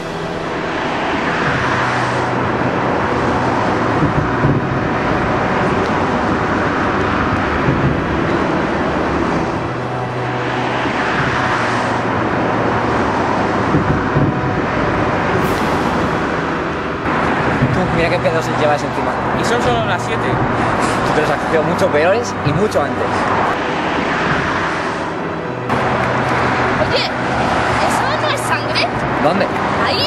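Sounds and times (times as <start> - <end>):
cars passing close by: 0.0 - 30.0
road traffic rushing: 0.0 - 30.0.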